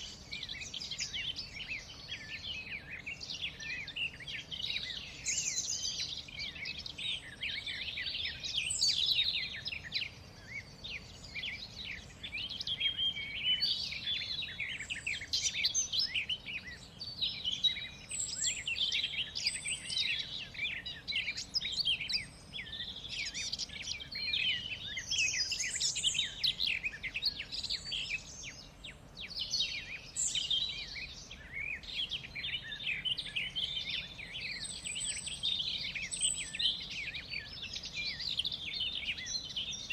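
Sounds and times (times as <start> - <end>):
birds chirping and singing: 0.0 - 39.9
faint outdoor hiss: 0.0 - 39.9.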